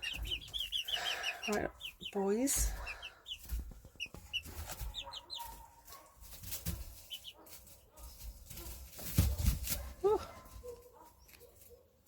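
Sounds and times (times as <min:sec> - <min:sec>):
chicks cheeping: 0:00.0 - 0:11.7.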